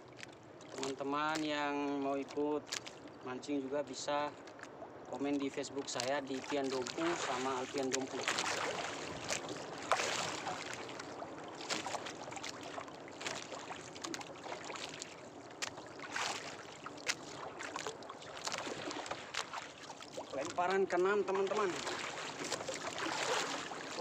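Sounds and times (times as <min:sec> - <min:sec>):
water lapping around boat: 0:00.0 - 0:24.0
wind: 0:00.0 - 0:24.0.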